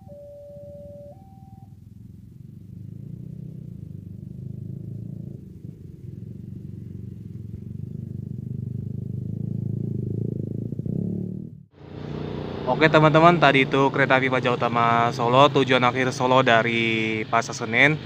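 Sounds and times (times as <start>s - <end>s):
motorcycles and scooters passing: 0.0s - 18.0s.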